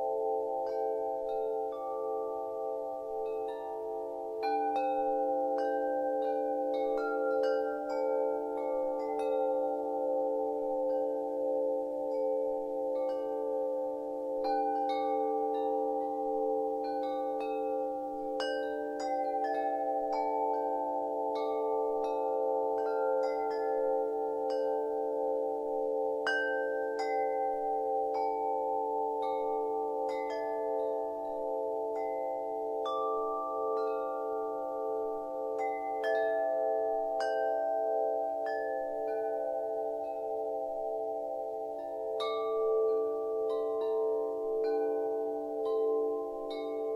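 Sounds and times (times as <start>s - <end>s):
chimes ringing: 0.0s - 46.9s.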